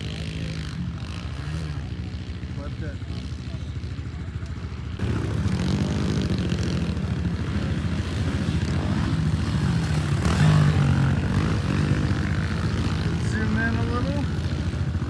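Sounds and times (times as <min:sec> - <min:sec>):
pit bike engines revving: 0:00.0 - 0:15.0.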